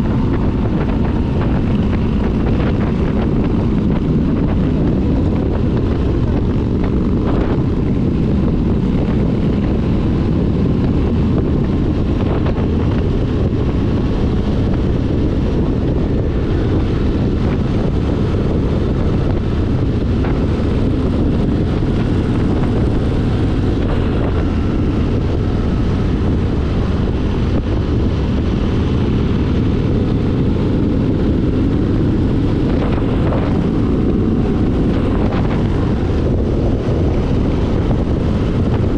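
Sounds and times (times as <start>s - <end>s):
motorcycle engine drone: 0.0s - 38.9s
wind noise on microphone: 0.0s - 38.9s.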